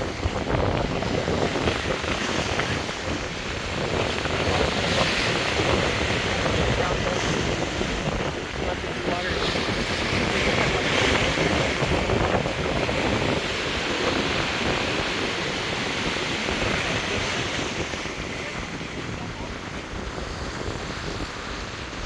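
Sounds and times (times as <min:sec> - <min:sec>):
ocean surf washing: 0:00.0 - 0:22.0
wind buffeting microphone: 0:00.0 - 0:22.0.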